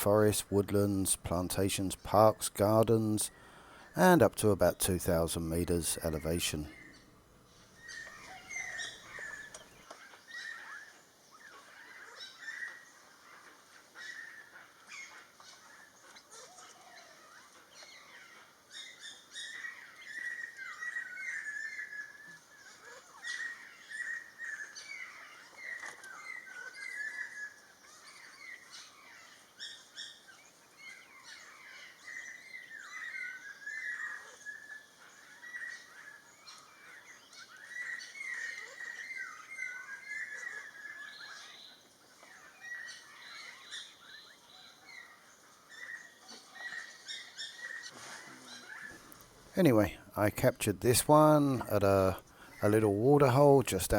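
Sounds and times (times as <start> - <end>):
warbling birdsong: 0.0 - 53.9.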